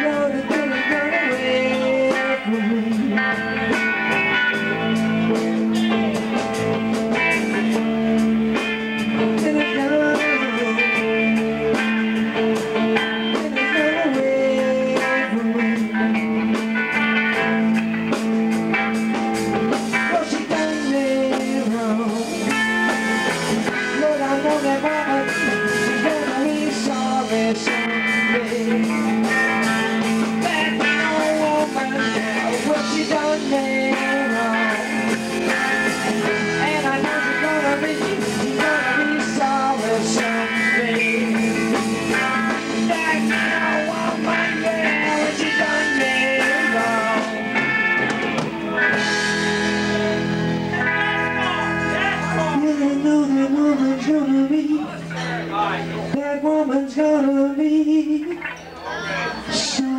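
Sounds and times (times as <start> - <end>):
man singing: 0.0 - 17.9, 18.8 - 48.1, 49.9 - 59.9
live rock band playing: 0.0 - 59.9.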